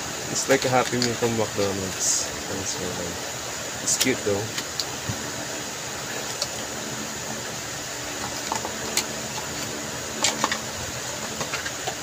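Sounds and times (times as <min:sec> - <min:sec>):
fan-like room hiss: 0:00.0 - 0:12.0.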